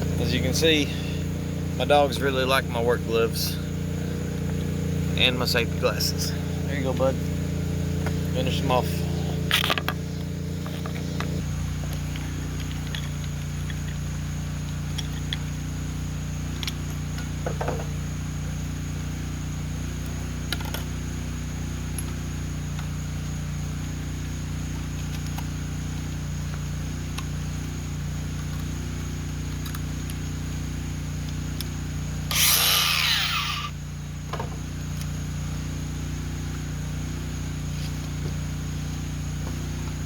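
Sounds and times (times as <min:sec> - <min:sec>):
machine humming: 0:00.0 - 0:40.0.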